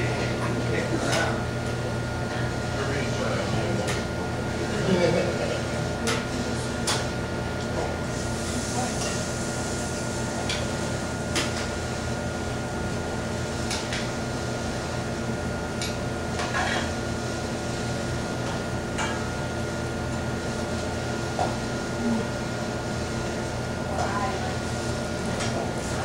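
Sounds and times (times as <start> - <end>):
ventilation machine hum: 0.0 - 26.0.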